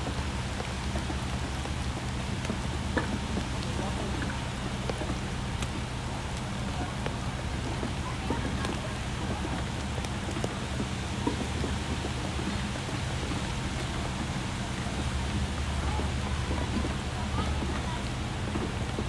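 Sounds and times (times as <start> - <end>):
heavy rain falling: 0.0 - 19.0
drops ticking on a surface: 0.1 - 19.0.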